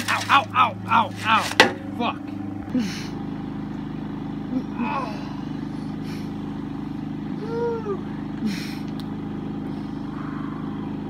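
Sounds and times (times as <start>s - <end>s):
engine humming: 0.0s - 11.0s
high rising and falling whine: 0.0s - 11.0s.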